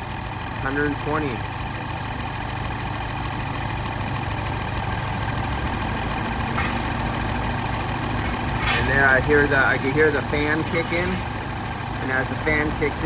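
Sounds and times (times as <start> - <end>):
car engine idling: 0.0 - 13.0
cooling fan hum: 0.0 - 13.0.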